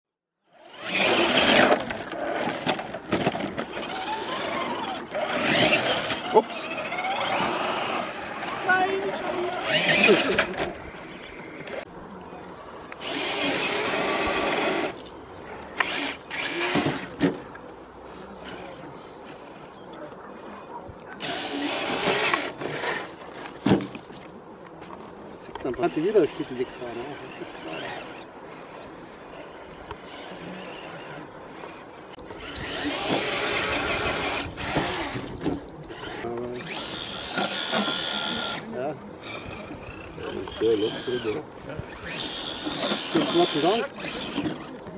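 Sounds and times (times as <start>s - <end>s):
electric motor and gears whining: 0.5s - 11.9s, 12.9s - 17.6s, 21.2s - 23.5s, 25.6s - 44.9s.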